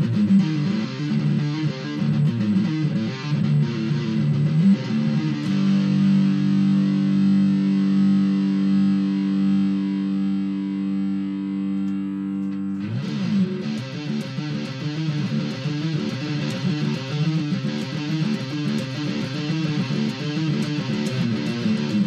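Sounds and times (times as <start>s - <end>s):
distorted electric guitar chord: 0.0s - 22.0s.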